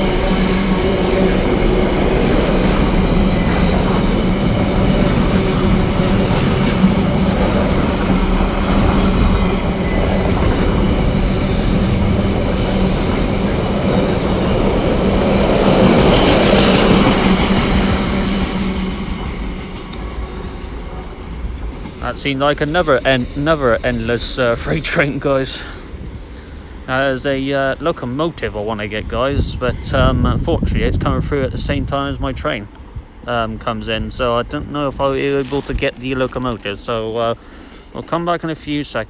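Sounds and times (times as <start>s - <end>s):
freight train wagons clattering: 0.0s - 25.8s, 32.5s - 39.0s.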